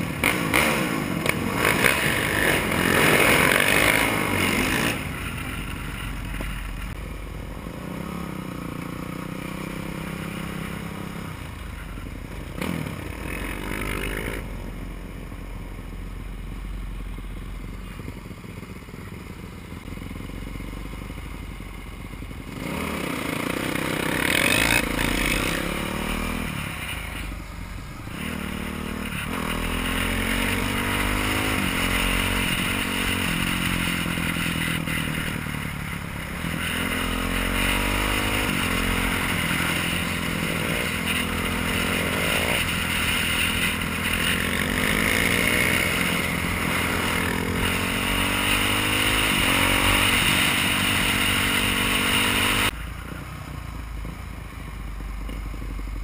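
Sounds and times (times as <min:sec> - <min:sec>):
motorcycle engine revving and idling: 0:00.0 - 0:56.0.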